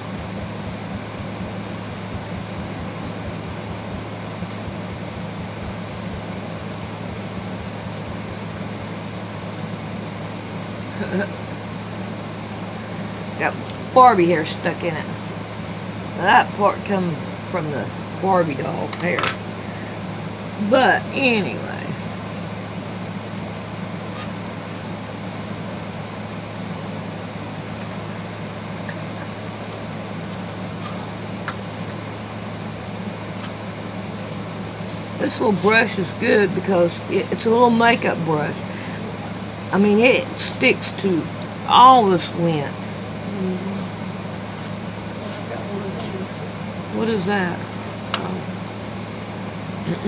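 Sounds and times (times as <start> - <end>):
air conditioner humming: 0.0 - 50.0
room fan running: 0.0 - 50.0.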